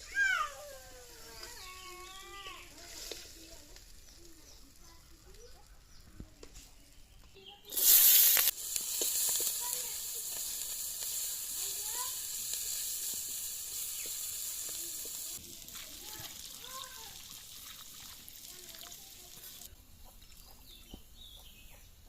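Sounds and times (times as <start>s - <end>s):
food sizzling in hot oil: 0.0s - 21.7s.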